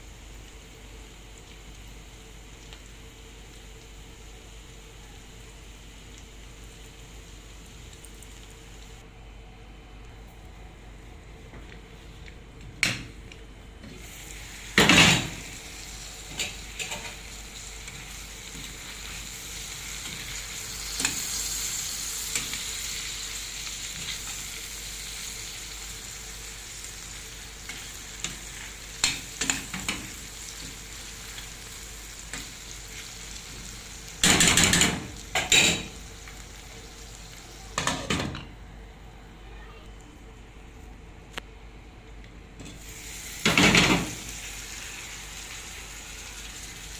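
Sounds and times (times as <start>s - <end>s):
food sizzling in a pan: 0.0s - 9.0s, 13.8s - 38.3s, 42.6s - 46.9s.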